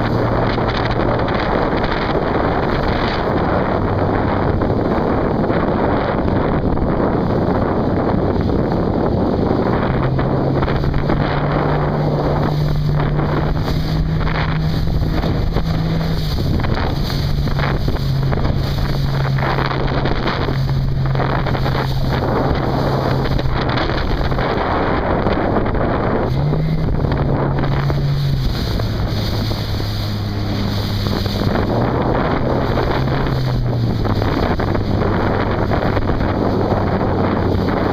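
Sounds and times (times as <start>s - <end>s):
low hum: 0.0s - 37.9s
rushing water: 0.0s - 37.9s
wind buffeting microphone: 0.0s - 37.9s.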